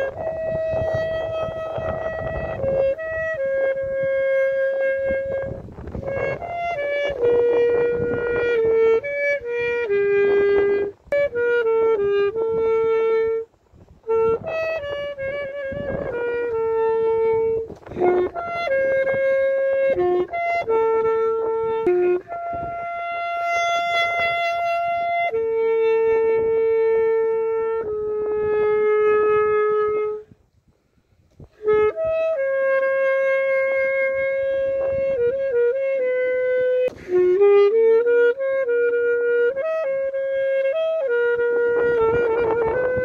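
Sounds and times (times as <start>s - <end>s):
saxophone melody: 0.0s - 30.4s, 31.0s - 43.0s.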